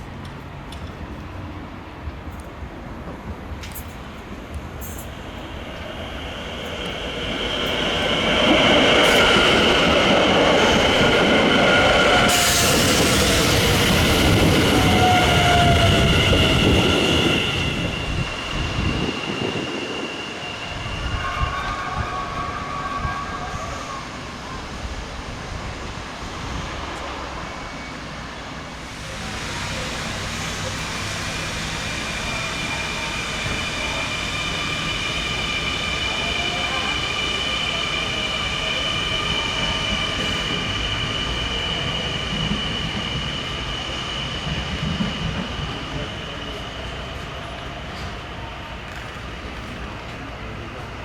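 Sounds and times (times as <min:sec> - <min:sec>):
electric train passing: 0:00.0 - 0:51.0.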